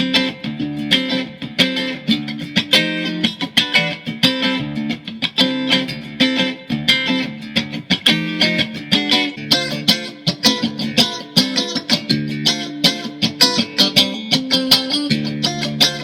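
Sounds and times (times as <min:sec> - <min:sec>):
electric guitar riff: 0:00.0 - 0:16.0.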